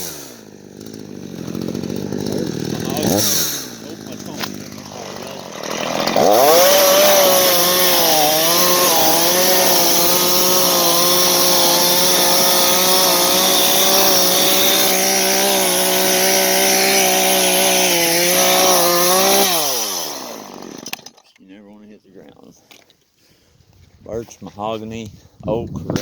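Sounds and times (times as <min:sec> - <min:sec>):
chainsaw revving: 0:00.0 - 0:21.2.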